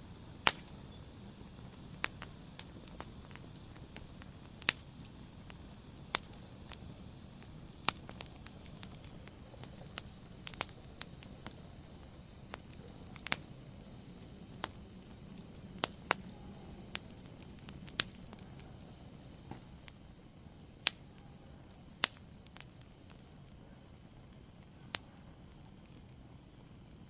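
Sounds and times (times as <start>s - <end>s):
soft rush of burning: 0.0s - 27.0s
wood fire pops and snaps: 0.1s - 27.0s.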